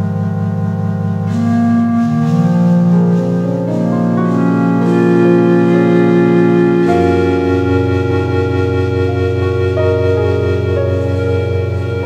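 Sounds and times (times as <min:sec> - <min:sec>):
ambient synthesizer chords: 0:00.0 - 0:12.0.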